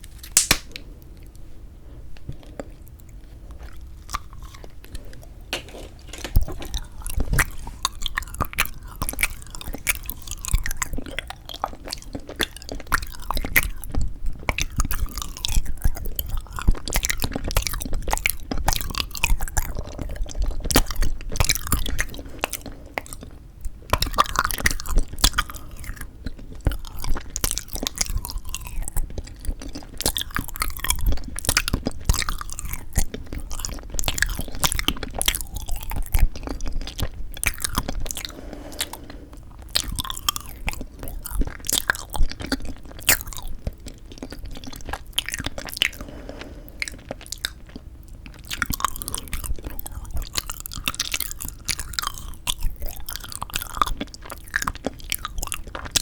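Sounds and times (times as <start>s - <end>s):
crunchy chewing: 2.2s - 56.0s.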